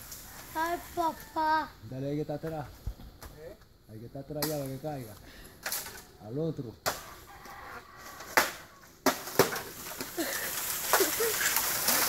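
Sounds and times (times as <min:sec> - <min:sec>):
rustling of leaves and stalks: 0:00.0 - 0:03.8, 0:04.4 - 0:12.0.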